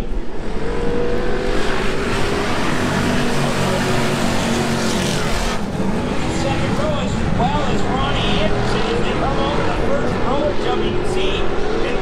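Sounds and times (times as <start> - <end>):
racing truck engines roaring: 0.0 - 12.0.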